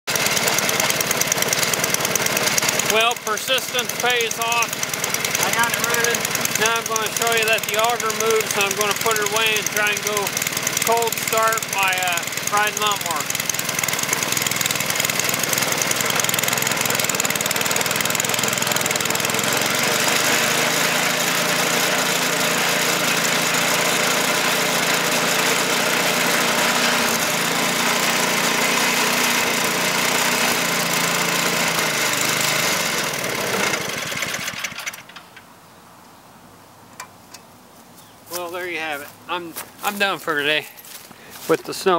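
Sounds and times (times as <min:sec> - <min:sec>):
snowblower engine running: 0:00.1 - 0:35.2.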